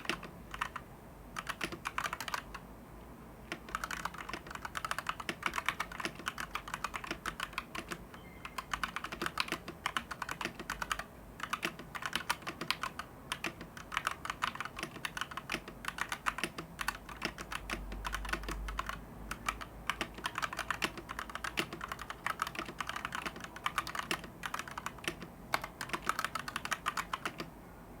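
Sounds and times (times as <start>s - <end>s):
mechanical keyboard typing: 0.0s - 2.7s, 3.5s - 27.5s.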